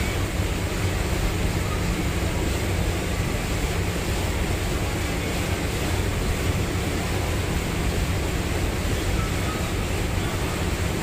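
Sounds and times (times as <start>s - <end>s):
boat engine hum: 0.0s - 11.0s
water rushing along hull: 0.0s - 11.0s.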